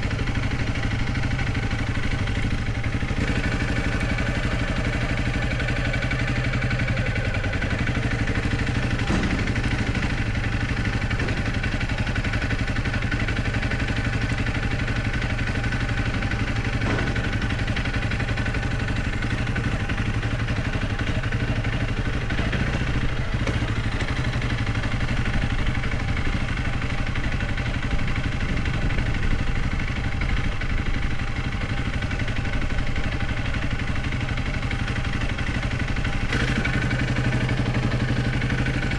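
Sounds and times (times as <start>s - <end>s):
motorcycle engine running at low revs: 0.0s - 38.9s.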